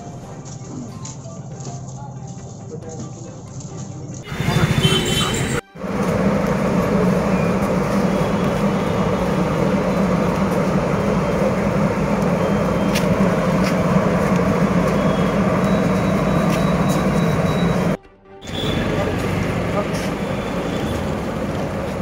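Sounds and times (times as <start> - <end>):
engine running steadily: 4.3 - 22.0.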